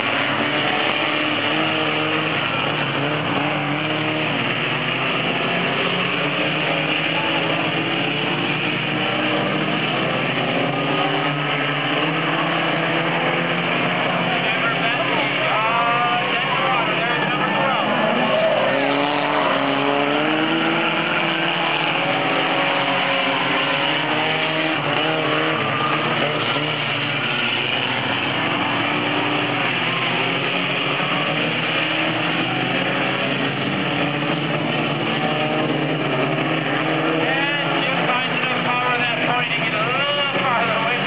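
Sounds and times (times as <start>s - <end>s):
race car engines: 0.0s - 41.0s.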